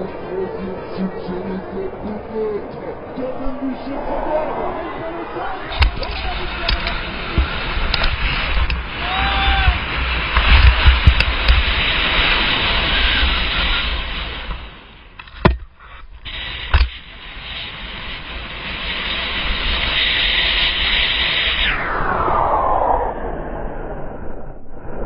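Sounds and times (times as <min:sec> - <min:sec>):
wind and snow rushing: 0:01.0 - 0:15.2, 0:16.2 - 0:25.0.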